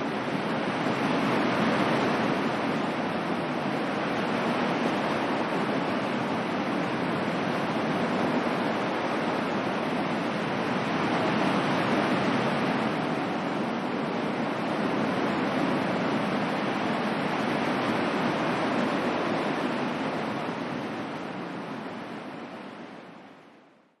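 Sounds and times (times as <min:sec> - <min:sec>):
ocean waves washing in: 0:00.0 - 0:23.9.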